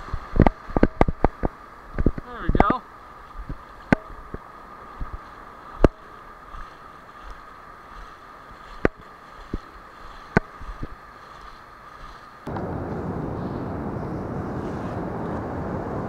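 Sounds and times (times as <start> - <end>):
wind on the microphone: 0.0 - 16.0.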